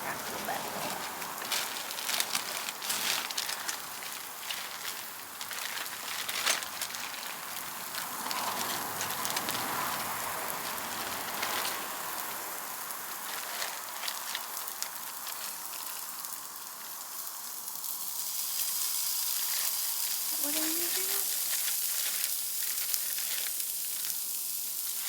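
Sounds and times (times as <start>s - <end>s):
food sizzling in hot oil: 0.9s - 25.0s.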